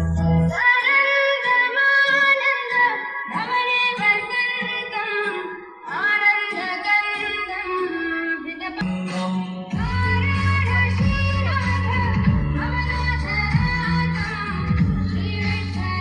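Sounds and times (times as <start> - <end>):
instrumental backing music: 0.0 - 0.9, 3.5 - 16.0
woman singing: 0.2 - 16.0.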